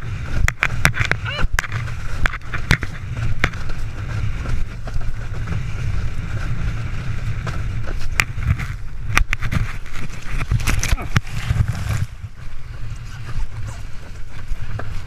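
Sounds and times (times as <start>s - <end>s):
rush of water and spray: 0.0s - 15.0s
wind buffeting microphone: 0.0s - 15.0s.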